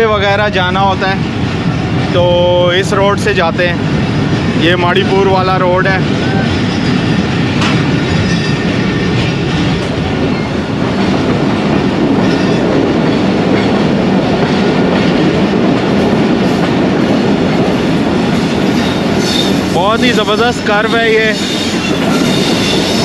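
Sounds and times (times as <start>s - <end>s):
train coach rumbling and rattling: 0.0s - 23.0s.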